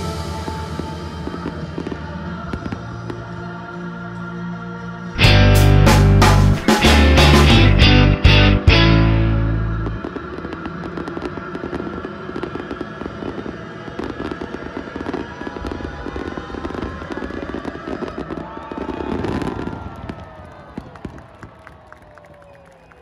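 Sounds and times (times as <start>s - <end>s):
fireworks crackling: 0.0s - 3.4s, 5.6s - 22.9s.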